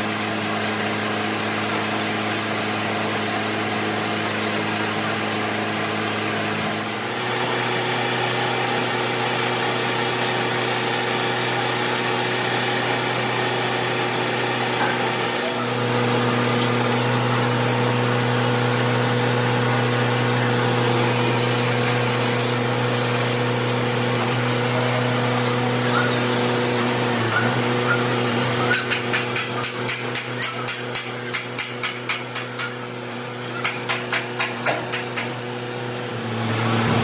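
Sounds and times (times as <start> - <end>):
electric machine hum: 0.0 - 37.0.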